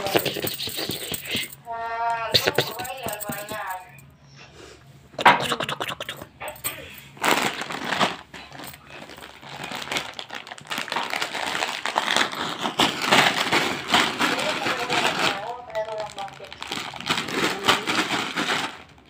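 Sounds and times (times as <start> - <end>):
plastic packets crinkling: 0.0 - 1.6, 2.3 - 3.9, 6.0 - 19.0.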